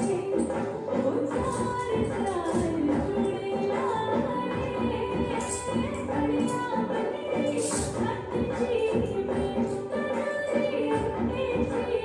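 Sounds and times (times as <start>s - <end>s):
percussion beat: 0.0s - 12.0s.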